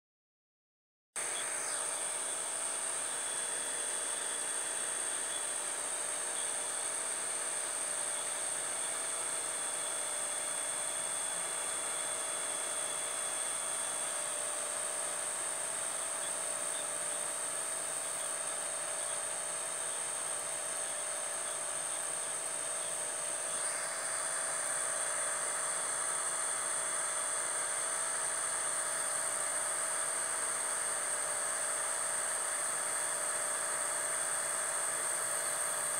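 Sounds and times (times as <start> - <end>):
insect chorus drone: 1.2 - 35.9.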